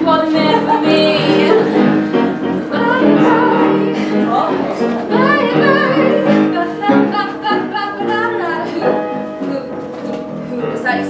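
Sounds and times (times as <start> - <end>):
person singing: 0.0 - 9.8
instrumental accompaniment: 0.0 - 11.0.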